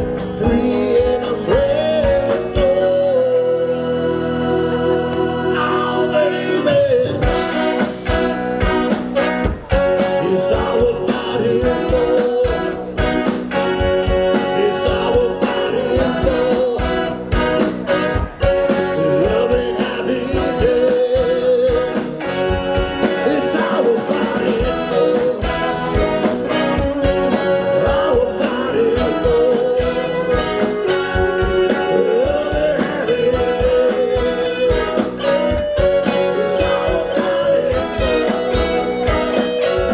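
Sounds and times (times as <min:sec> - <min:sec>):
rock band playing: 0:00.0 - 0:39.9
wavering lead guitar line: 0:00.0 - 0:39.9.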